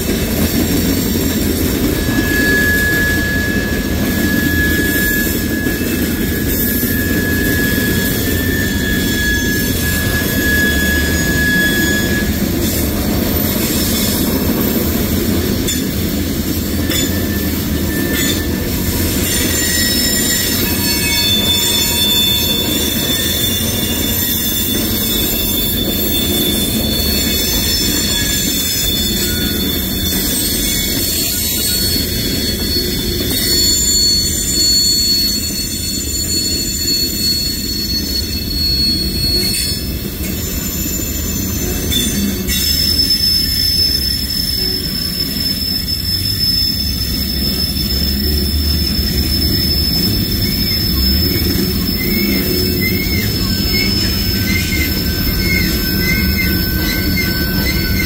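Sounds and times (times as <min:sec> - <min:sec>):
high-pitched wheel squeal: 0:00.0 - 0:58.0
train wheels rumbling on rail: 0:00.0 - 0:58.0.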